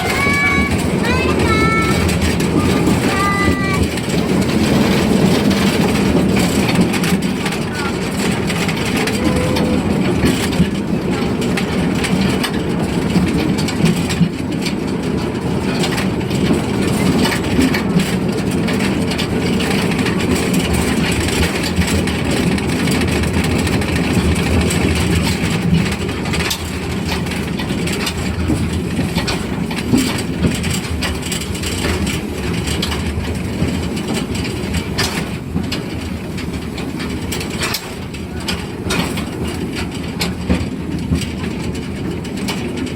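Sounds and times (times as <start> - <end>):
carriages rattling: 0.0 - 42.9
small clacks and knocks: 0.0 - 42.9
train wheels rumbling on rail: 0.0 - 42.9.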